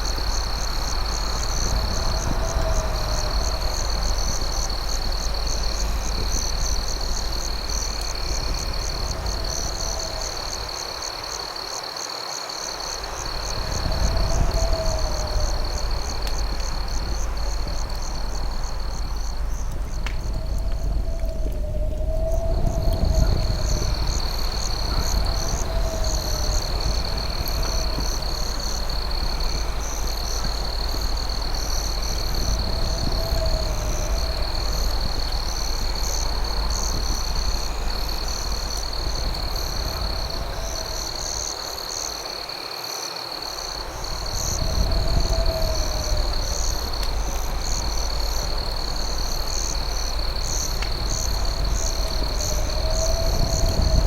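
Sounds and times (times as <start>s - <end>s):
steady low rumble: 0.0s - 11.3s, 12.9s - 42.0s, 43.7s - 54.0s
crickets chirping: 0.0s - 54.0s
steady high insect trill: 0.0s - 54.0s.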